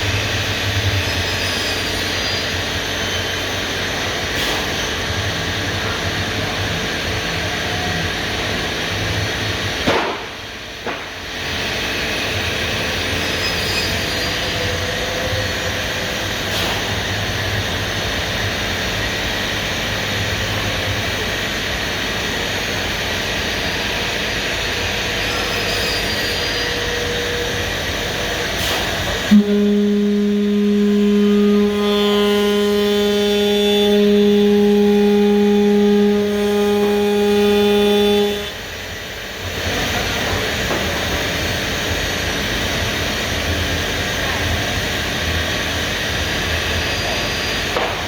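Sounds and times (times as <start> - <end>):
cnc router running: 0.0 - 48.0.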